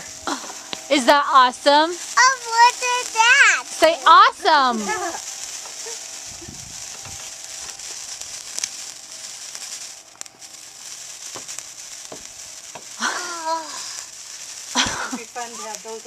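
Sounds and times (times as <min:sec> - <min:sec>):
faint crackles: 0:00.0 - 0:16.0
sparkler fizzing hiss: 0:00.0 - 0:16.0.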